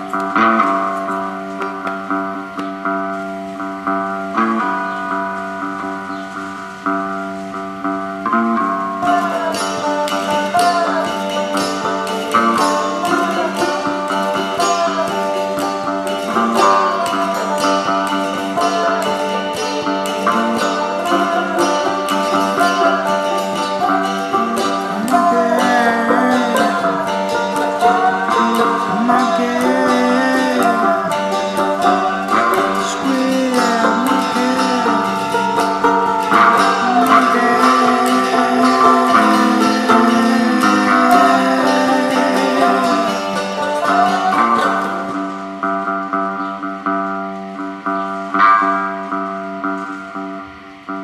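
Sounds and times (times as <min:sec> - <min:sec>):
plucked strings playing: 0:00.0 - 0:51.0.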